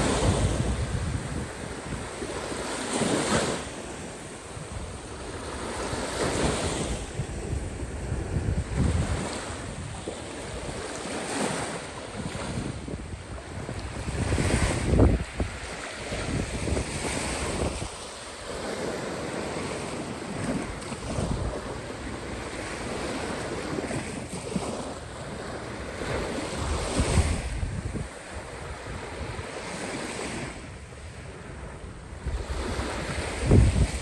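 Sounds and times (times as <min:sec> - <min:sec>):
waves breaking ashore: 0:00.0 - 0:34.0
wind buffeting microphone: 0:00.0 - 0:34.0.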